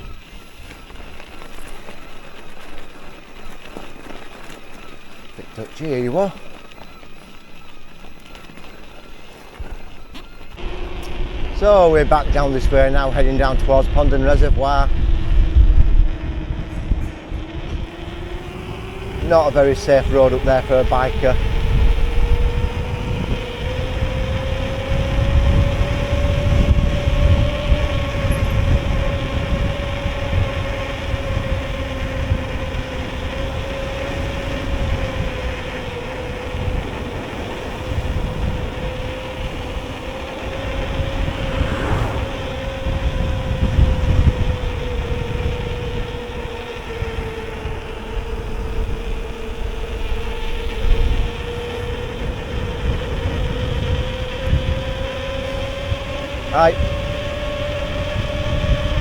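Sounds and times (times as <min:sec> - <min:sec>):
electric bike motor hum: 0:00.0 - 0:59.0
wind rumble on microphone: 0:00.0 - 0:59.0.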